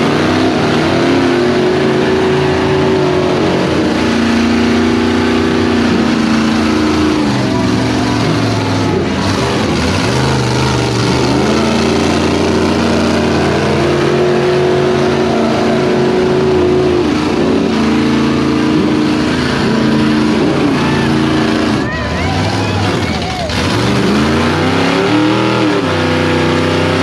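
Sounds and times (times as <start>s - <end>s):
tires spinning: 0.0s - 27.0s
truck engines revving high: 0.0s - 27.0s.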